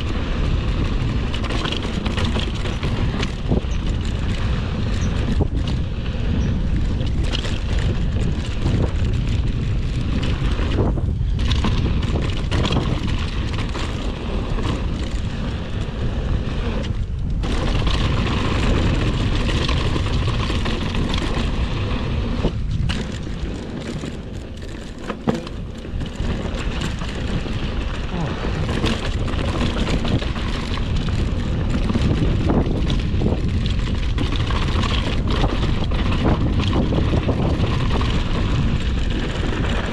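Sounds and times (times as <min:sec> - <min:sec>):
bike rattling and clicking: 0:00.0 - 0:39.9
tyres running on dirt: 0:00.0 - 0:39.9
wind buffeting microphone: 0:00.0 - 0:39.9.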